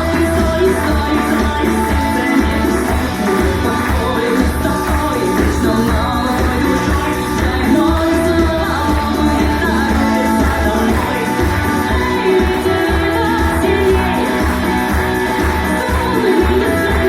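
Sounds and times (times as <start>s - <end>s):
song with band: 0.0s - 17.0s.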